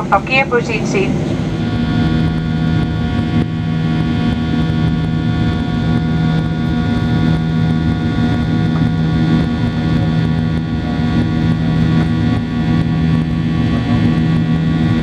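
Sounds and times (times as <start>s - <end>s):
jet engines drone in cabin: 0.0s - 15.0s.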